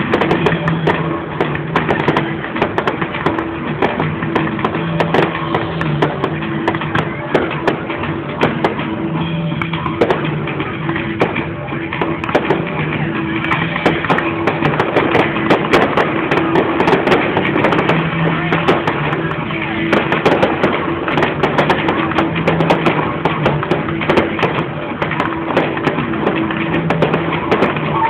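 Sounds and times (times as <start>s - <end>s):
fireworks crackling and popping: 0.0s - 28.0s
music with held low notes: 0.0s - 28.0s.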